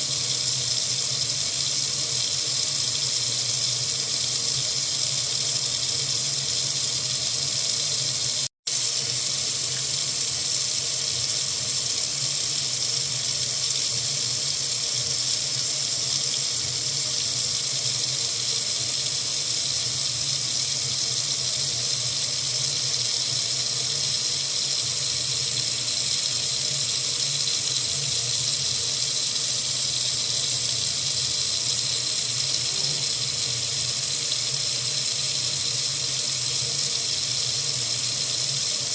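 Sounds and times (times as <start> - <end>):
water tap running into sink: 0.0 - 38.9.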